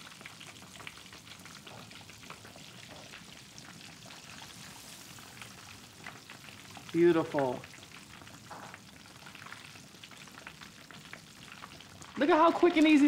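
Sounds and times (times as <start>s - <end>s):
fish deep-frying in oil: 0.0s - 13.0s.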